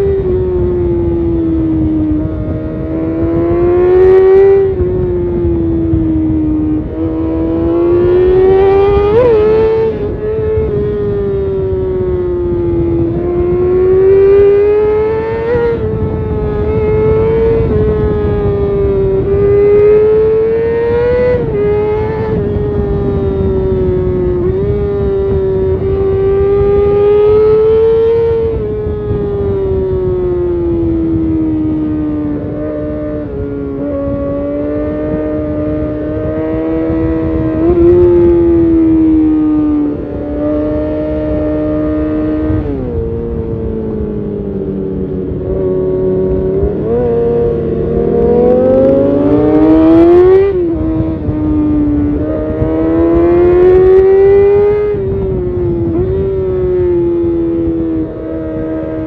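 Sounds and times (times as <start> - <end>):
motorcycle engine revving high: 0.0 - 59.0
wind rushing: 0.0 - 59.0.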